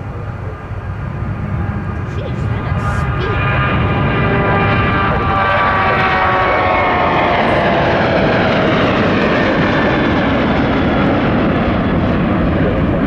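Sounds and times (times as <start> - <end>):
jet airliner engines passing: 0.0 - 13.0.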